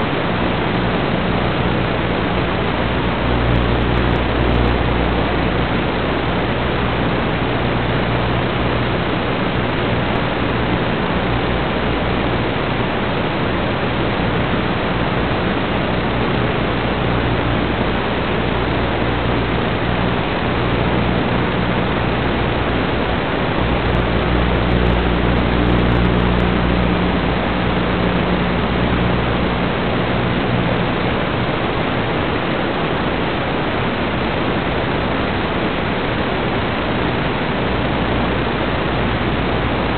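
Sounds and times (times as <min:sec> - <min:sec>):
faint low hum: 0:00.0 - 0:39.9
static hiss: 0:00.0 - 0:39.9.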